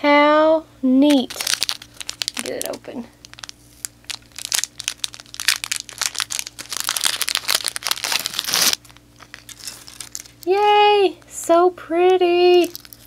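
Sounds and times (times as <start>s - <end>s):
plastic sleeve crinkling: 1.1s - 10.7s, 12.2s - 13.0s.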